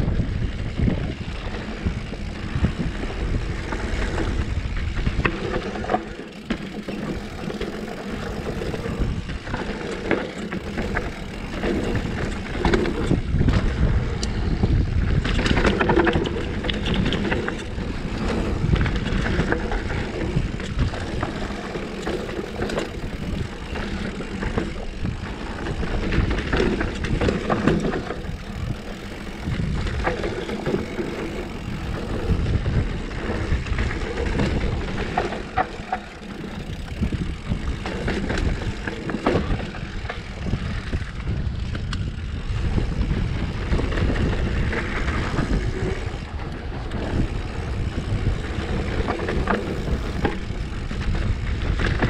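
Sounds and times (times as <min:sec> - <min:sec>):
bike rattling and clicking: 0:00.0 - 0:52.0
tyres rolling on dirt: 0:00.0 - 0:52.0
wind buffeting microphone: 0:00.0 - 0:52.0.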